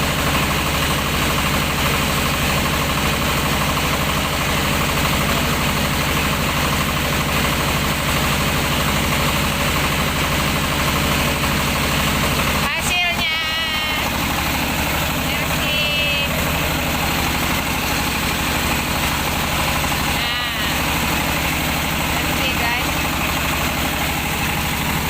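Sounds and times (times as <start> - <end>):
machine engine running: 0.0 - 25.0.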